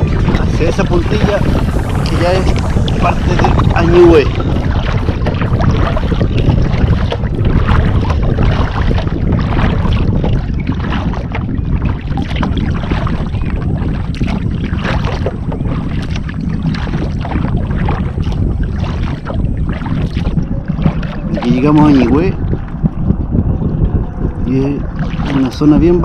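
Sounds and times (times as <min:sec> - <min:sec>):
water splashing against kayak: 0:00.0 - 0:26.0
wind rumbling on microphone: 0:00.0 - 0:26.0.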